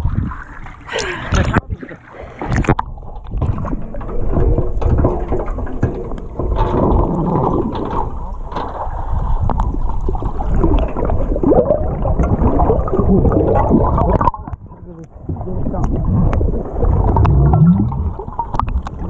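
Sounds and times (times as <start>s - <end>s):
underwater bubbles gurgling: 0.0s - 19.0s.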